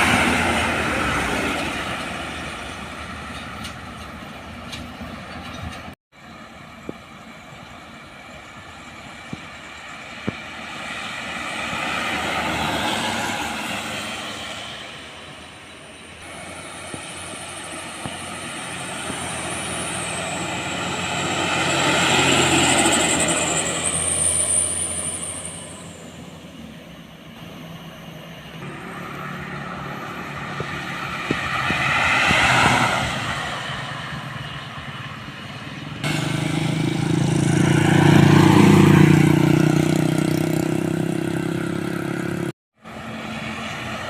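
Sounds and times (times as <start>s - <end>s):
road vehicles passing: 0.0s - 44.0s.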